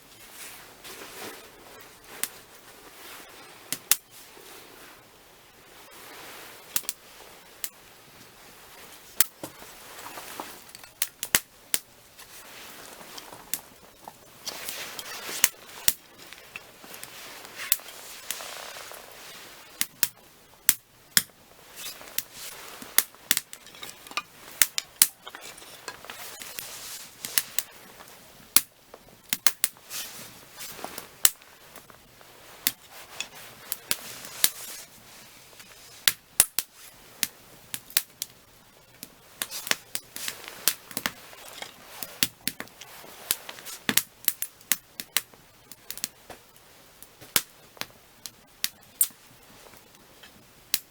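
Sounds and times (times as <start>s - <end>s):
soft hiss of flames: 0.0s - 50.9s
firewood crackling and popping: 0.1s - 4.6s, 5.8s - 50.9s.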